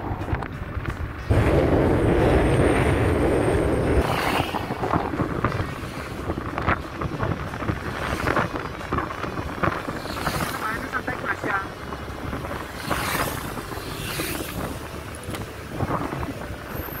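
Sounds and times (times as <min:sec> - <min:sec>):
motorcycle road noise: 0:00.0 - 0:17.0
wind buffeting microphone: 0:00.0 - 0:17.0.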